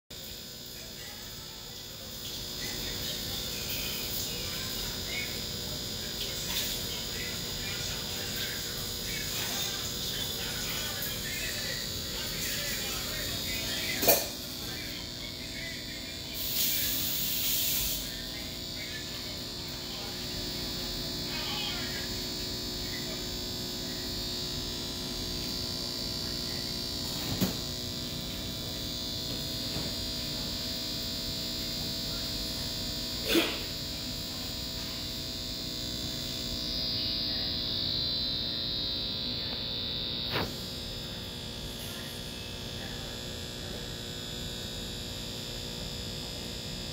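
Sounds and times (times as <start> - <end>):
aquarium equipment humming: 0.1 - 46.9.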